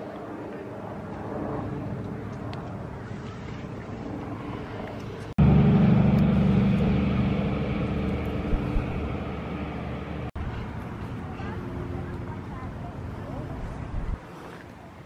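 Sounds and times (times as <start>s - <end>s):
low engine drone: 0.8s - 14.0s.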